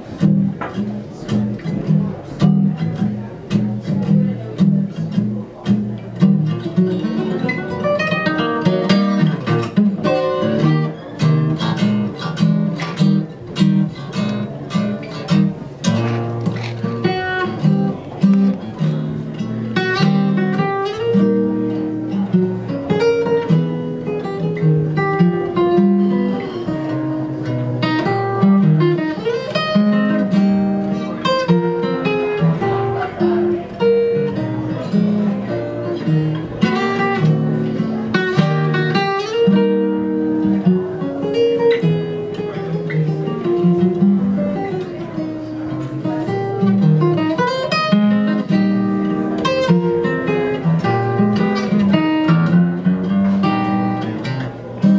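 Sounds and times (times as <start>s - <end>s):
acoustic guitar jazz tune: 0.0s - 54.9s.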